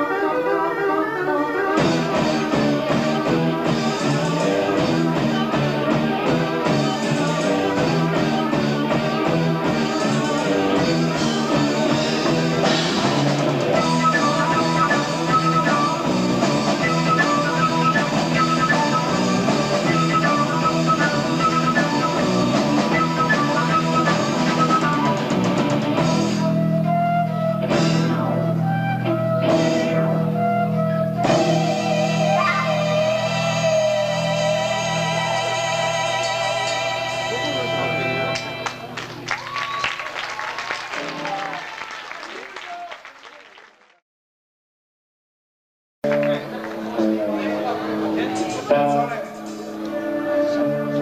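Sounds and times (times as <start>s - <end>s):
rock band playing live: 0.0s - 39.6s, 46.0s - 51.0s.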